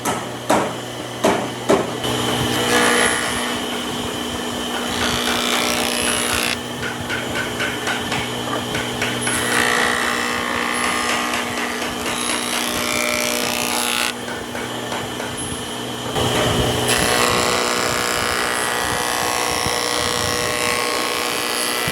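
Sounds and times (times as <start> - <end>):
power tools working wood: 0.0 - 21.9.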